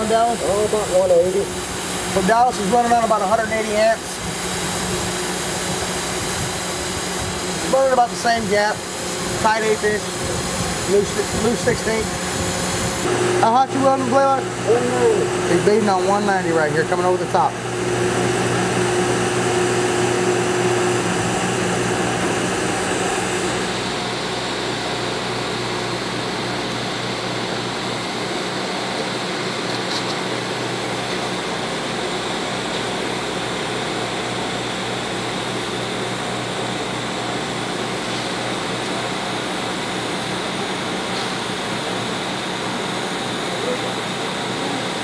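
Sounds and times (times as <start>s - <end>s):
low electrical hum: 0.0s - 45.0s
welding arc hissing: 0.0s - 45.0s.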